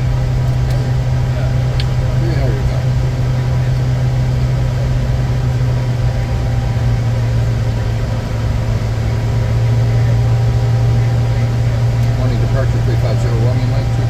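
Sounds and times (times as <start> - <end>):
jet engine hum: 0.0 - 14.0.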